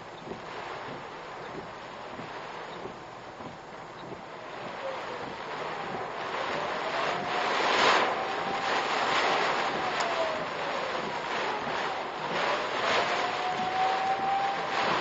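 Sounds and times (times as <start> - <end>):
wind gusting around a car: 0.0 - 15.0.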